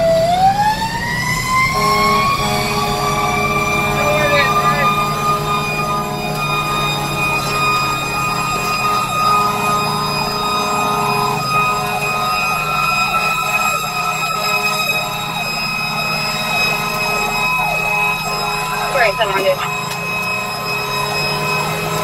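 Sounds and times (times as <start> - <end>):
fire engine siren yelping: 0.0 - 22.0
steady high whine: 0.2 - 22.0
truck air horn blare: 1.5 - 22.0.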